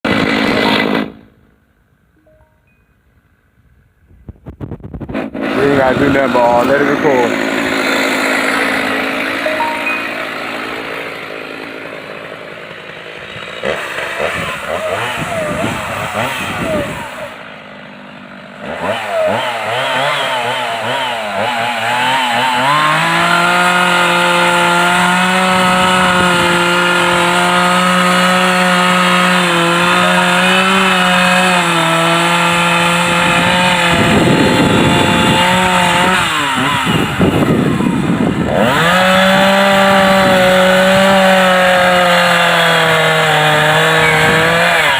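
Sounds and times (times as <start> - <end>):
chainsaw running: 0.0 - 1.3, 5.0 - 44.9.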